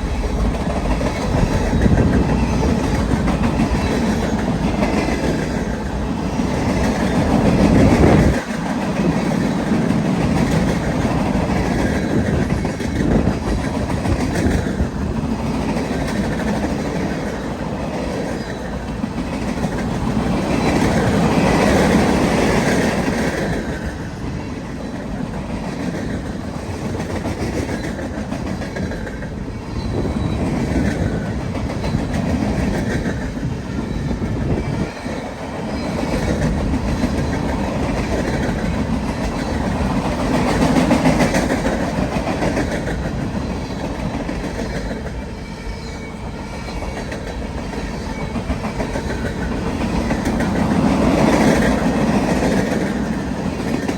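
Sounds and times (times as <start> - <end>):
train rumble: 0.0 - 53.9
train wheels clacking on rail joints: 0.0 - 53.9.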